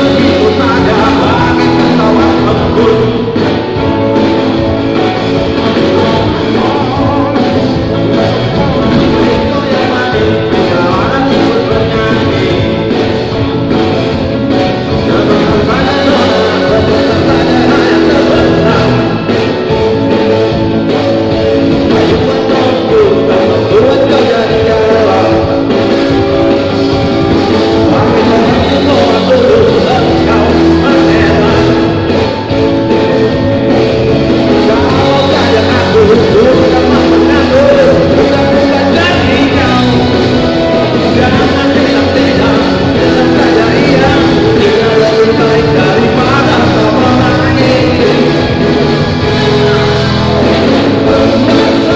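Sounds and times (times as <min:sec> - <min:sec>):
live pop-rock band: 0:00.0 - 0:51.9
person singing: 0:00.0 - 0:51.9.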